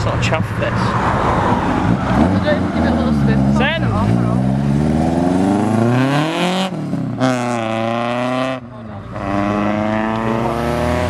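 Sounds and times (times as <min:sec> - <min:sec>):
car engine accelerating through gears: 0:00.8 - 0:11.0.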